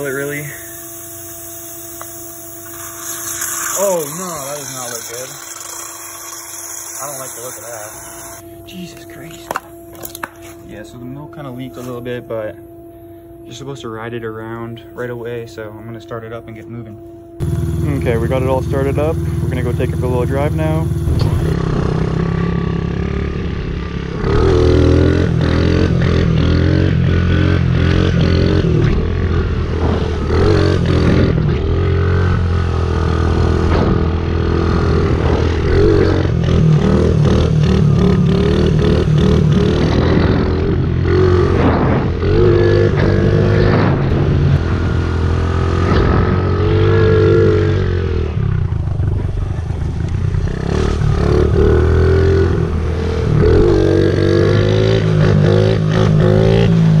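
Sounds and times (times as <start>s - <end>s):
small motorbike engine revving: 0.0s - 15.2s, 17.3s - 57.0s.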